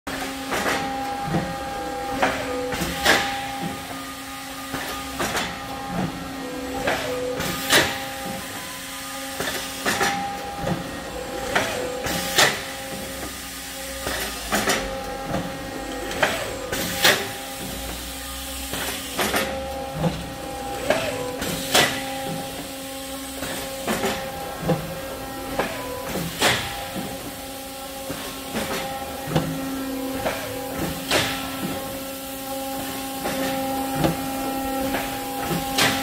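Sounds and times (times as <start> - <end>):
factory machinery humming: 0.1 - 36.0
machine hisses and clacks: 0.1 - 36.0.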